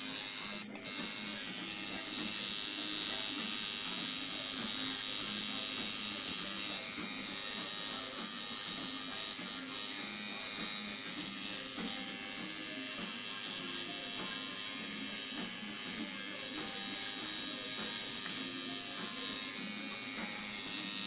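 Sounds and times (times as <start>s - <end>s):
tattoo machine buzzing: 0.0s - 21.0s.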